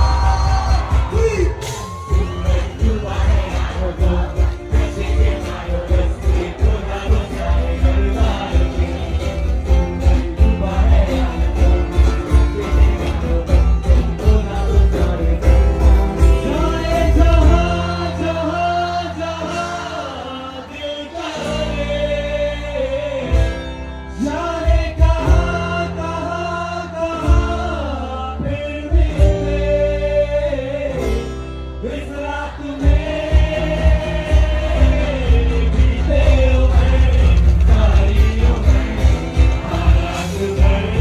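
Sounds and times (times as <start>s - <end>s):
live band playing: 0.0s - 41.0s
man singing: 0.0s - 41.0s.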